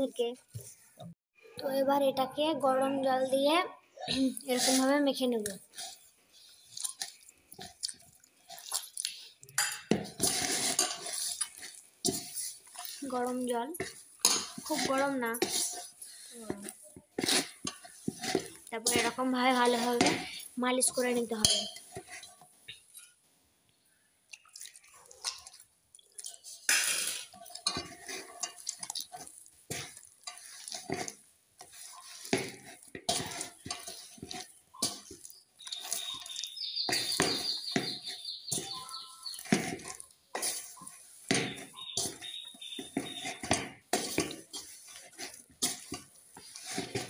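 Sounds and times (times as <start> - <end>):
hands kneading dough in metal bowl: 4.1 - 23.2, 24.3 - 47.0.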